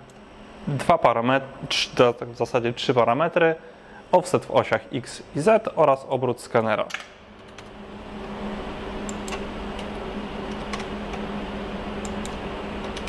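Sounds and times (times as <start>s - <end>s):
background hum: 0.0s - 13.0s.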